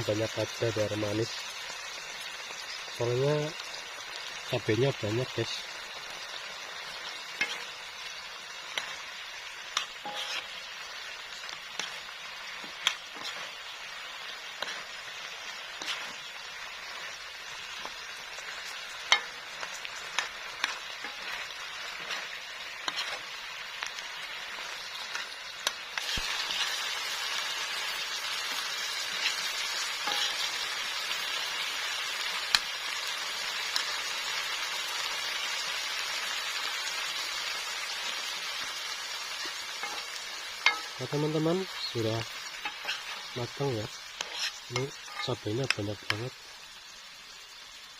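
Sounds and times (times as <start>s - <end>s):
food sizzling in a pan: 0.0s - 47.9s.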